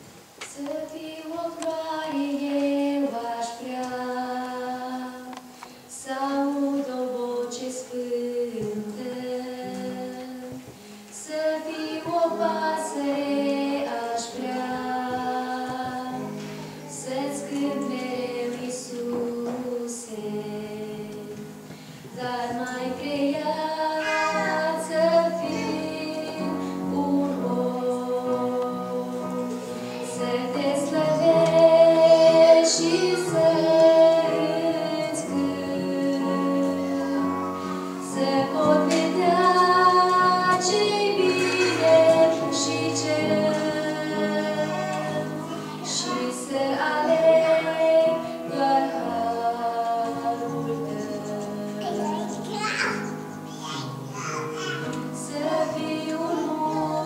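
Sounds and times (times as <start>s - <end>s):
woman singing a hymn: 0.4s - 52.1s, 55.0s - 57.0s
keyboard chords: 10.4s - 57.0s.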